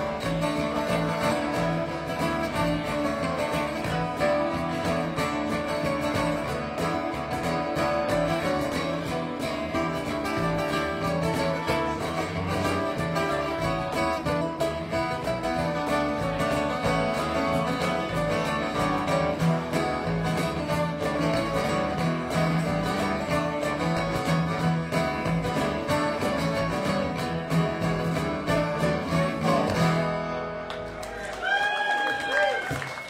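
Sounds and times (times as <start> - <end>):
electric bass line: 0.0 - 30.9
strummed acoustic guitars: 0.0 - 31.3
cajon beat: 0.0 - 33.0.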